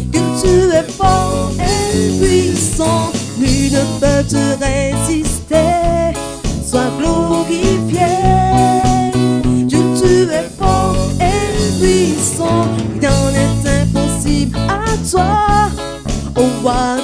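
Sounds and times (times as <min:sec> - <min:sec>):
bass guitar: 0:00.0 - 0:17.0
electric guitar: 0:00.0 - 0:17.0
electronic drum kit: 0:00.0 - 0:17.0
woman singing: 0:00.0 - 0:17.0.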